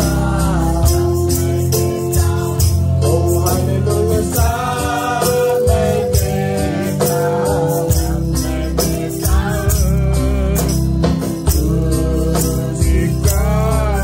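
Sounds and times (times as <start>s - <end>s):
electronic keyboard: 0.0s - 14.0s
man and woman singing: 0.0s - 14.0s
steady percussion beat: 0.0s - 14.0s.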